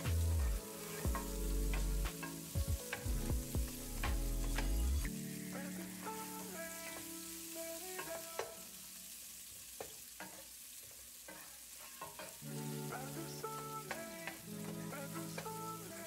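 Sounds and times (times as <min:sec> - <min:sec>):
soft background music: 0:00.0 - 0:09.1, 0:12.2 - 0:16.0
onion and garlic sizzling in oil: 0:00.0 - 0:16.0.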